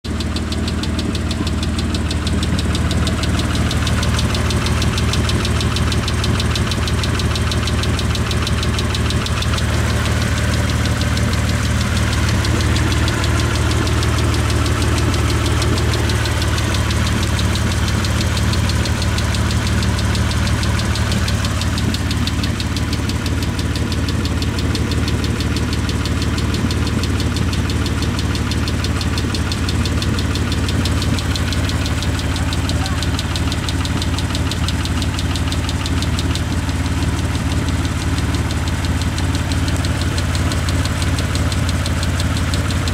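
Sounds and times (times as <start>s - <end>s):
car engine idling: 0.0s - 42.9s
engine lifter tick: 0.0s - 42.9s.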